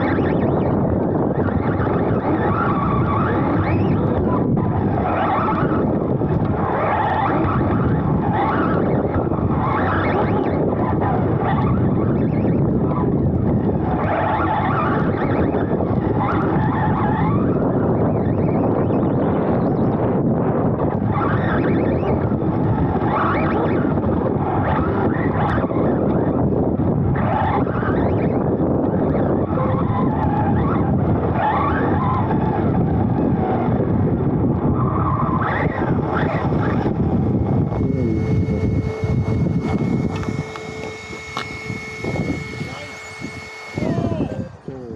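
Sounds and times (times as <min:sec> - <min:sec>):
electric motor whine: 0:00.0 - 0:44.9
wind on microphone: 0:00.0 - 0:44.9.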